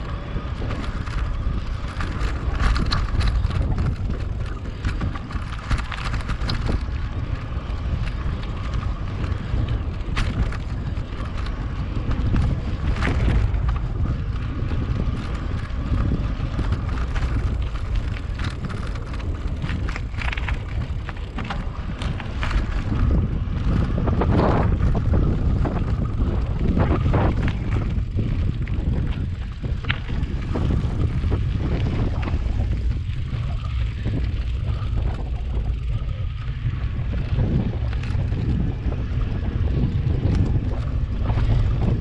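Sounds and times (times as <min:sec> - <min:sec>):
bike knocks and rattles: 0:00.0 - 0:42.0
wind buffeting microphone: 0:00.0 - 0:42.0.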